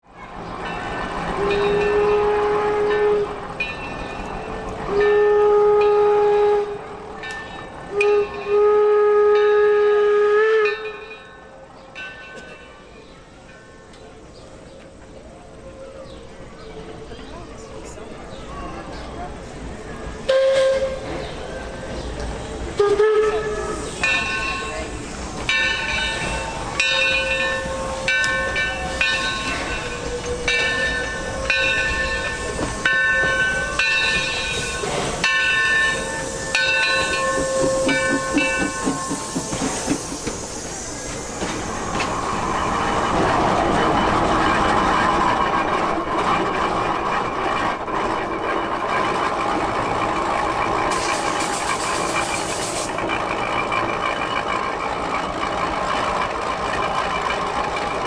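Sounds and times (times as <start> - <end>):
train passing: 0.0 - 58.0.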